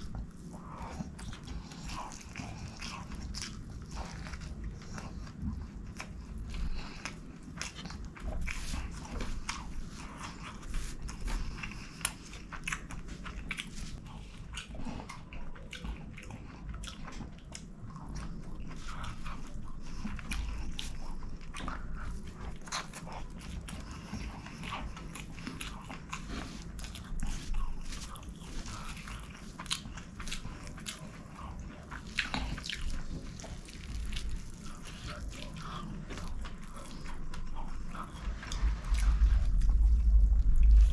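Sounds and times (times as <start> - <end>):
chewing and mouth smacking: 0.0 - 40.9.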